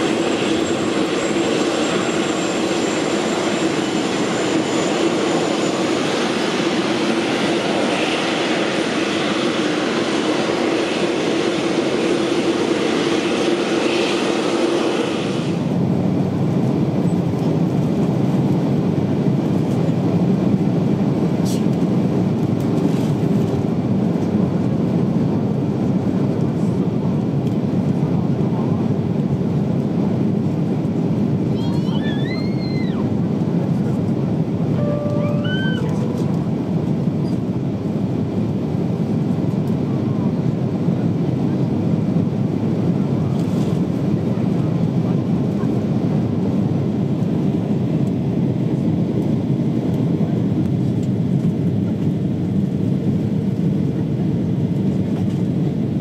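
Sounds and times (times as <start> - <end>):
aircraft cabin drone: 0.0 - 56.0
jet engine high whine: 0.0 - 56.0.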